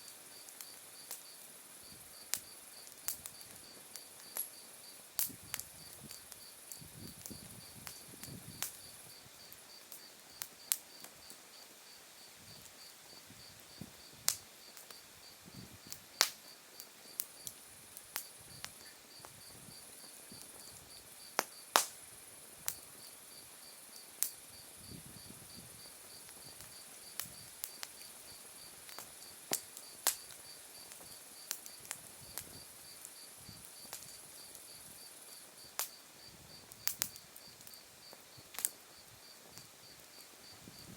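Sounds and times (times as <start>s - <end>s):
insect high continuous trill: 0.0s - 40.9s
wood fire crackling: 0.0s - 40.9s.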